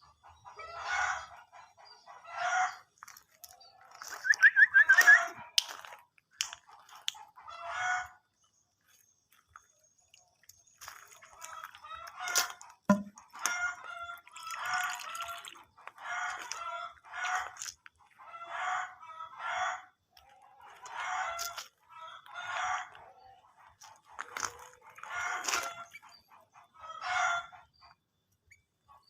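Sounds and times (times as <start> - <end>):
chicken clucking: 0.0 - 8.6, 9.5 - 29.0.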